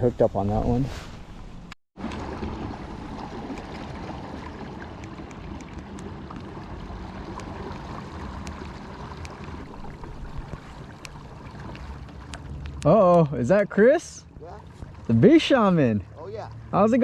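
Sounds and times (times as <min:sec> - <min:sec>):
low rumble of water: 0:00.0 - 0:17.0.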